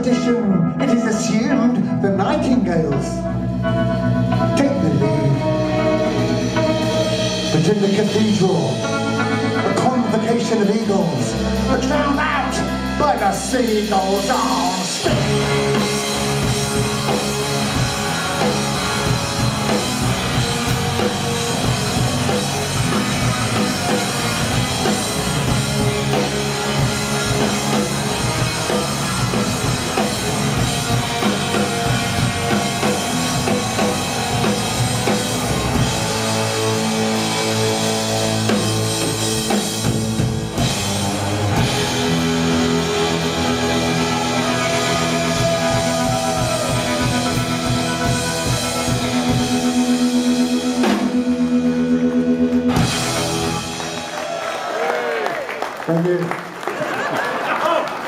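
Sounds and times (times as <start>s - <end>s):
rock band playing instrumental: 0.0s - 55.0s.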